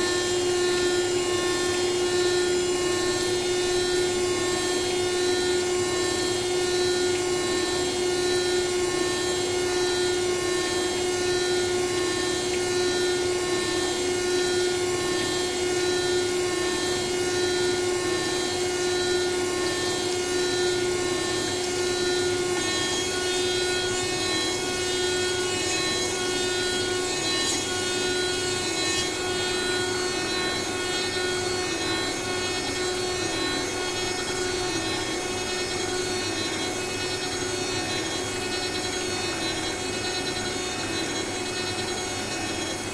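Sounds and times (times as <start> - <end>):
cutter grinding glass: 0.0 - 42.9
milling spindle whine: 0.0 - 42.9.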